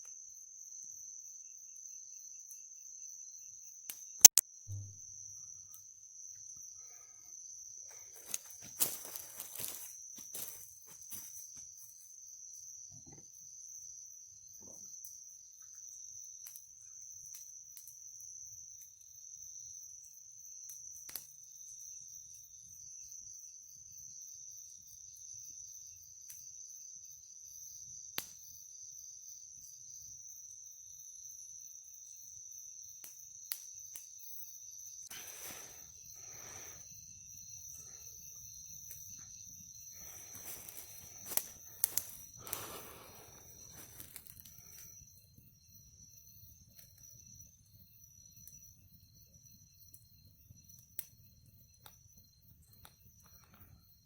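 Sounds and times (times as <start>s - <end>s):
night insects chirping: 0.0s - 54.0s.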